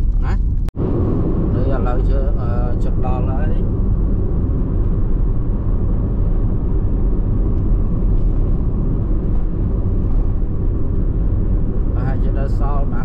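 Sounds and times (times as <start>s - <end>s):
motorbike engine and road rumble: 0.0s - 13.0s
wind buffeting microphone: 0.0s - 13.0s.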